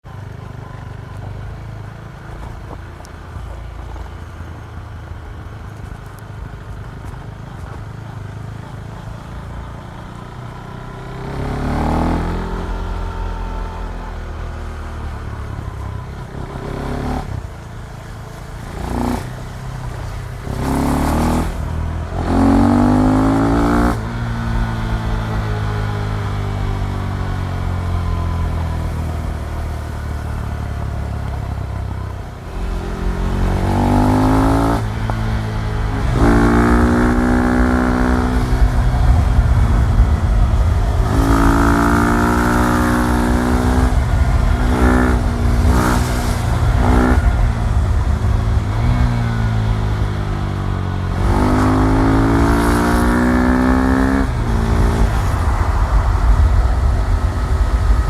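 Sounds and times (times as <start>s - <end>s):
motorcycle engine revving: 7.1s - 58.0s.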